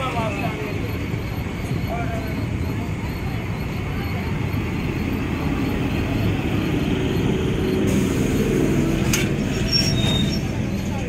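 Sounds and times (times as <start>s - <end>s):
trains rumbling on rails: 0.0s - 11.0s.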